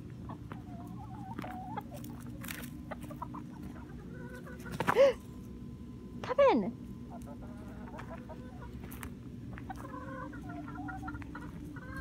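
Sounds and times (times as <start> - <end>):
chickens clucking: 0.0 - 5.8, 6.8 - 12.0.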